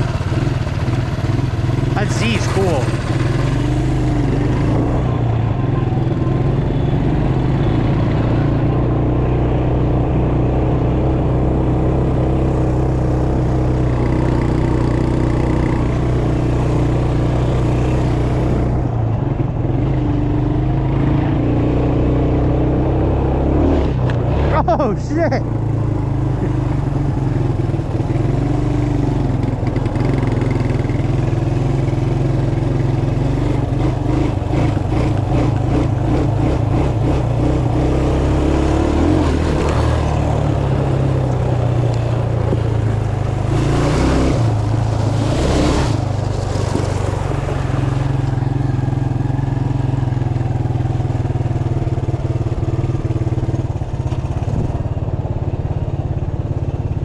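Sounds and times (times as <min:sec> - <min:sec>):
mini bike engine running: 0:00.0 - 0:09.2, 0:11.0 - 0:18.8, 0:24.1 - 0:57.0.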